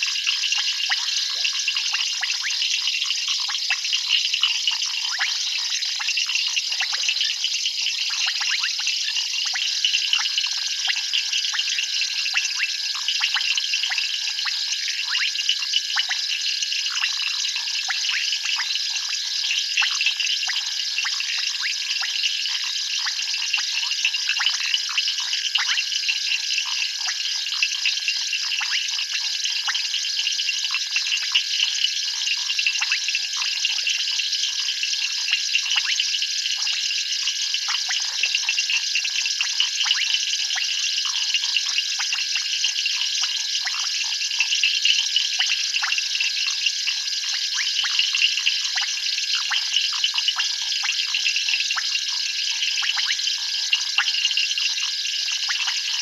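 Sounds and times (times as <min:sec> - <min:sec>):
frogs and insects trilling: 0:00.0 - 0:56.0.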